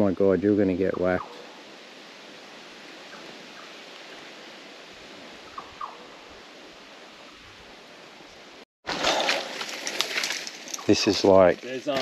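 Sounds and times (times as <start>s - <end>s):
outdoor background hiss: 0.0s - 8.6s, 9.9s - 12.0s.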